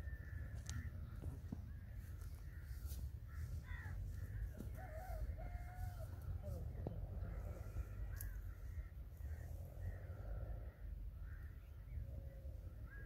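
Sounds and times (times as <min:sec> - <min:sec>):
birds calling: 0:00.0 - 0:13.0
faint crows cawing: 0:00.0 - 0:13.0
wind rumble on microphone: 0:00.0 - 0:13.0.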